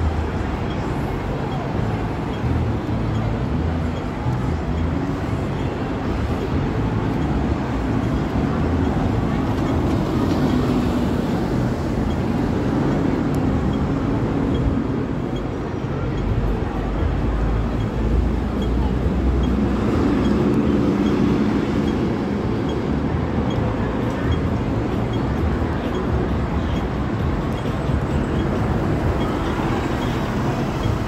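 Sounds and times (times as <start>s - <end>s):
city street traffic: 0.0s - 31.0s
pedestrian crossing signal ticking: 0.0s - 31.0s.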